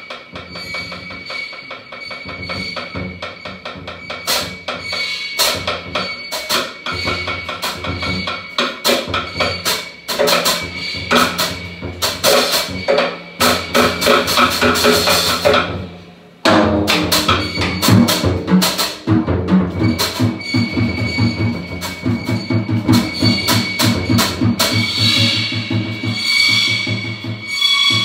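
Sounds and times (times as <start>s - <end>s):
drum kit solo: 0.0s - 28.0s.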